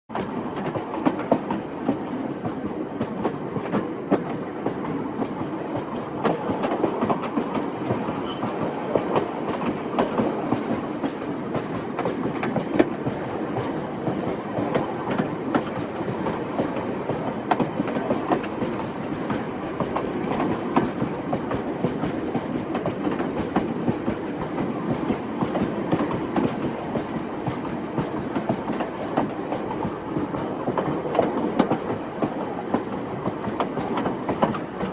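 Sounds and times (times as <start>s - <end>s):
train rumbling on rails: 0.1s - 34.9s
wheels clicking over track: 0.1s - 34.9s.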